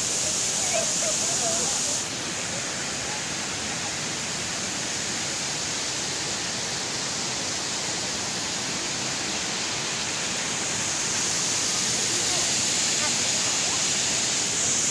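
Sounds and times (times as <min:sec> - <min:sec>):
fountain water rushing: 0:00.0 - 0:14.9.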